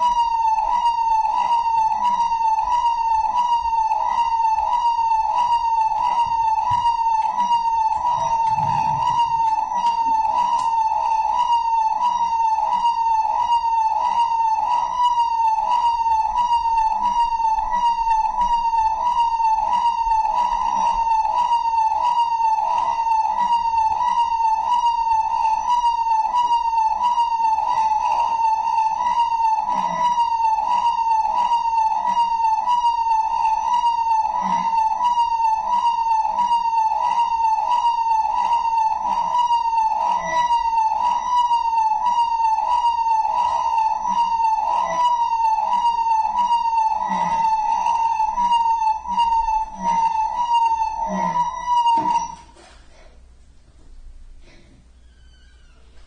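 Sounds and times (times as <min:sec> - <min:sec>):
electronic siren wail: 0:00.0 - 0:52.7.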